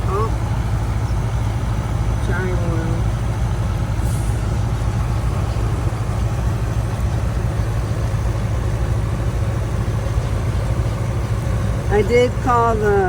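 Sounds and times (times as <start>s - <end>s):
engine idling rumble: 0.0s - 13.0s.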